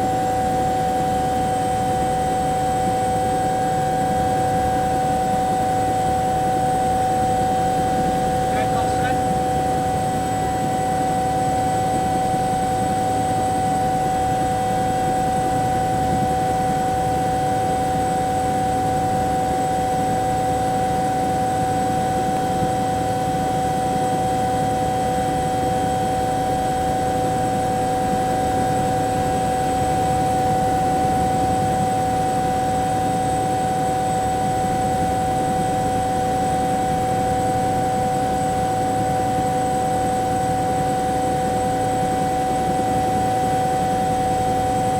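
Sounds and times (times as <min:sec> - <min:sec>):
helicopter rotor rumble: 0:00.0 - 0:44.9
helicopter turbine whine: 0:00.0 - 0:44.9.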